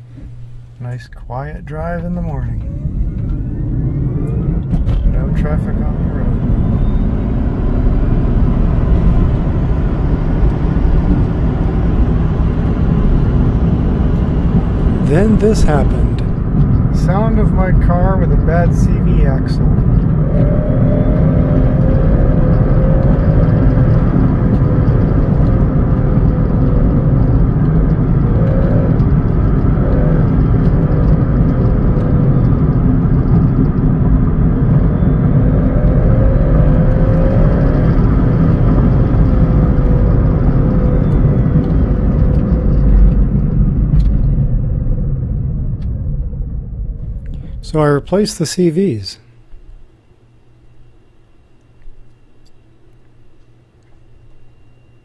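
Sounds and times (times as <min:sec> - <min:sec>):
car drivetrain rumble: 0:00.0 - 0:48.2
faint wavering whine: 0:00.0 - 0:55.0.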